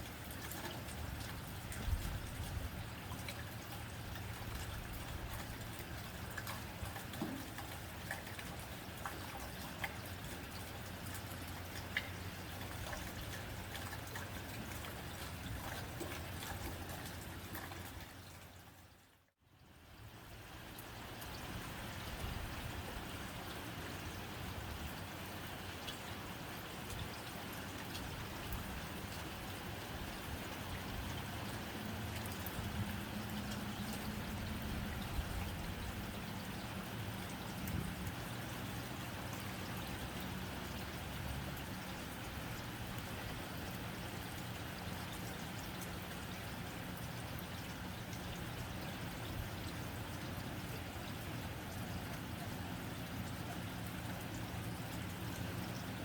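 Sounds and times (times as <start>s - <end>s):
rain on a tin roof: 0.0s - 56.0s
raindrops ticking on metal: 0.0s - 56.0s.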